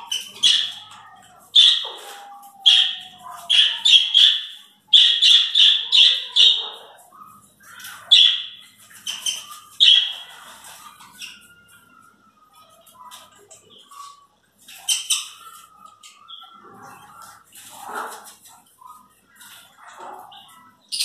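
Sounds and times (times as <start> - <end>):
parrots squawking: 0.0 - 21.0.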